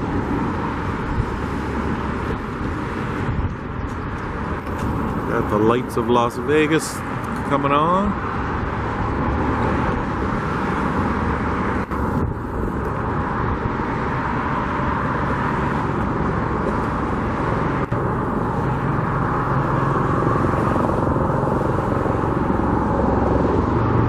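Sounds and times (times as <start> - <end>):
wind on microphone: 0.0 - 5.6, 8.4 - 24.0
road traffic roar: 0.0 - 24.0.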